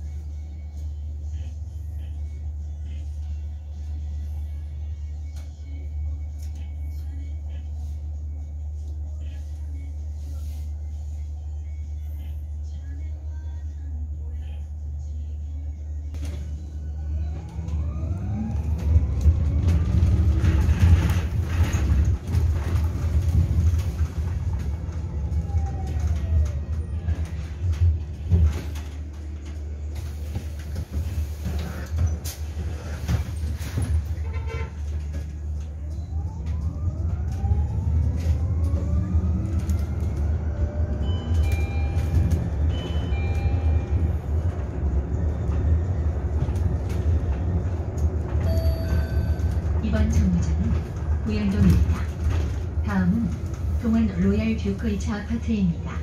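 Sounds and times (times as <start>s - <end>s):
road rumble: 0.0s - 56.0s.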